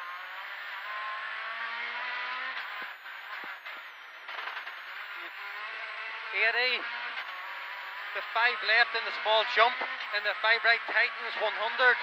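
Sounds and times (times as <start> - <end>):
rally car engine from inside cabin: 0.0 - 12.0.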